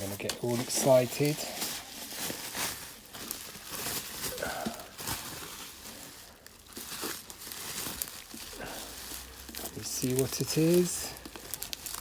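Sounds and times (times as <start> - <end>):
packing material crinkling and tearing: 0.0 - 12.0.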